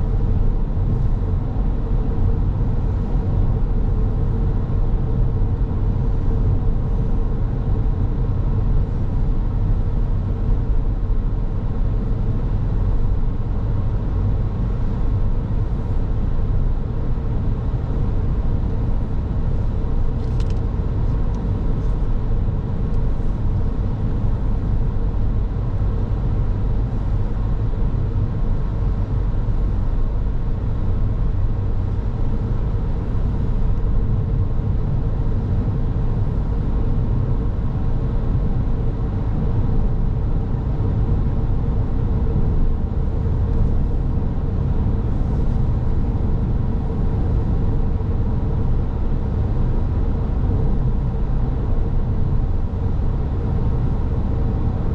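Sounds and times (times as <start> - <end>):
car tyre and engine rumble: 0.0 - 54.9
faint steady hum: 0.0 - 54.9.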